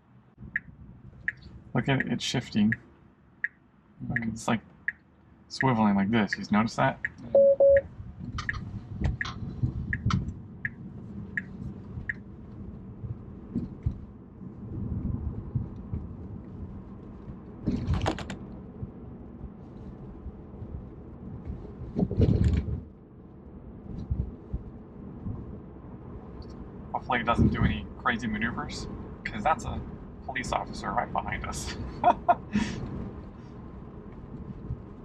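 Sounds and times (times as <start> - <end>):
road and tyre rumble: 0.0 - 35.0.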